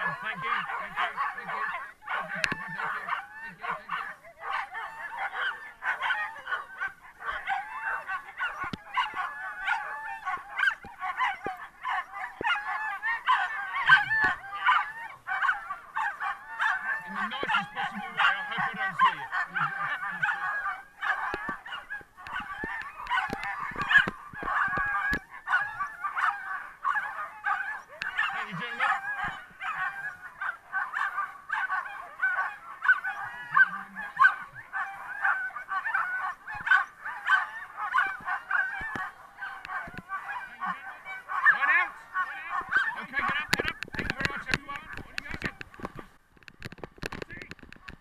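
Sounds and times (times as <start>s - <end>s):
huskies yelping and howling: 0.0s - 47.6s.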